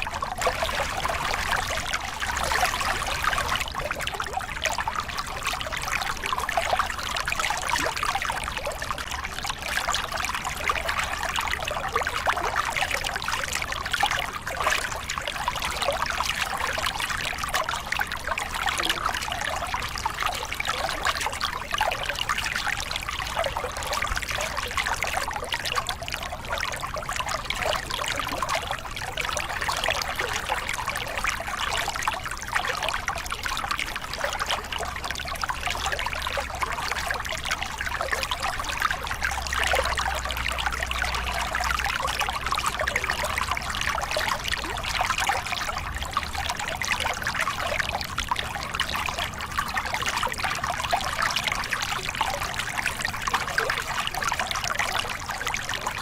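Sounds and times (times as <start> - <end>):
water splashing over rocks: 0.0 - 56.0.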